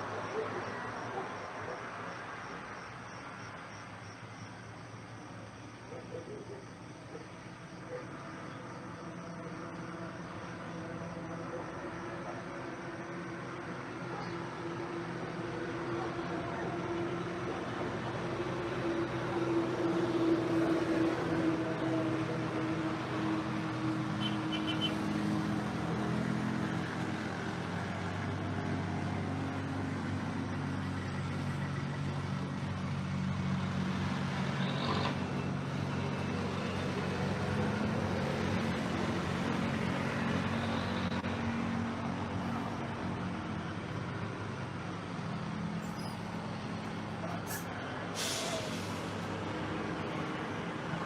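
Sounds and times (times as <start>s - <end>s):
passing road traffic: 0.0s - 51.0s.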